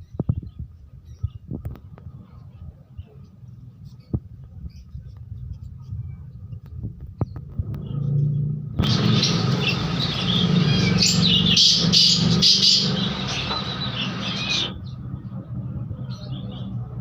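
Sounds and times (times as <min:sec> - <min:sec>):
birds chirping chorus: 0:00.0 - 0:17.0.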